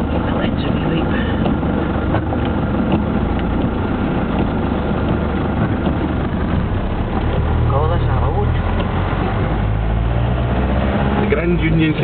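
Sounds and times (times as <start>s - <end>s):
car engine and tyre noise: 0.0s - 12.0s
water washing under wheels: 0.0s - 12.0s.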